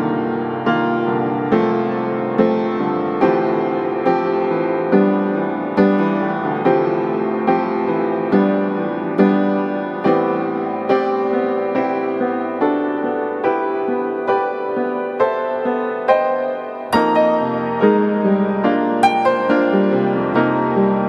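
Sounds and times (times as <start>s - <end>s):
slow soft piano chords: 0.0s - 21.0s.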